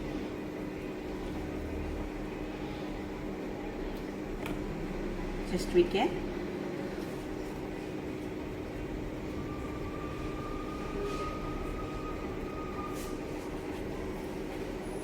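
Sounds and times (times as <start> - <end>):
microwave fan and motor hum: 0.0 - 15.0.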